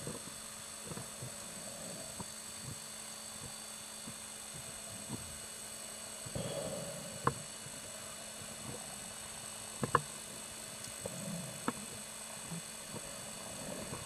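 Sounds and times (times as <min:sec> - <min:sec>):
steady electronic hum: 0:00.0 - 0:14.0.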